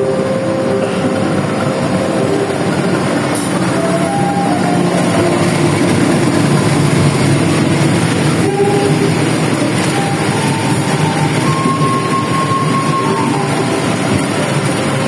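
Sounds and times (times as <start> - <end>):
train rolling rumble: 0.0 - 15.0.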